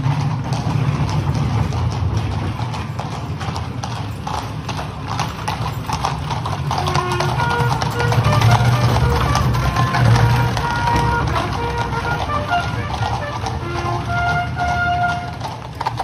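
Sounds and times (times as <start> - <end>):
horse hooves clip-clopping on pavement: 0.0 - 16.0.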